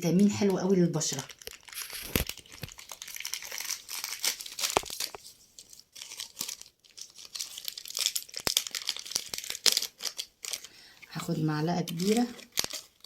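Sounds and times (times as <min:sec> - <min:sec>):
plastic packet rustling and tearing: 0:00.0 - 0:13.0.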